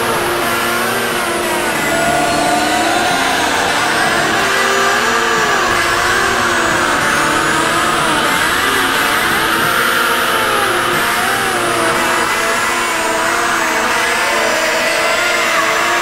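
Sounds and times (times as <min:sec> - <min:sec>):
electronic drone with sliding tones: 0:00.0 - 0:16.0.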